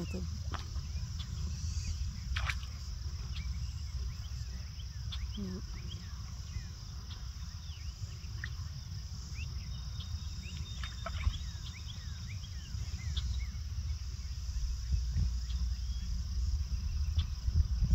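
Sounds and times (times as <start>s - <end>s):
high insect trill: 0.0s - 17.9s
wind rumble on microphone: 0.0s - 17.9s.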